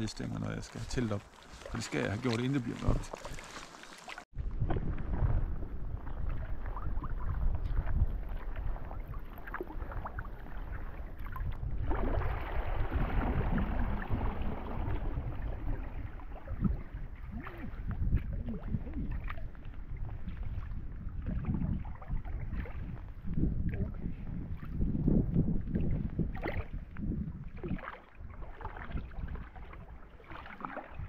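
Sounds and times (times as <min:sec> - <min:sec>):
paddle strokes: 0:00.0 - 0:05.1, 0:05.9 - 0:24.9, 0:25.6 - 0:31.0
water splashing against hull: 0:00.0 - 0:31.0
wind rumble on microphone: 0:04.3 - 0:31.0.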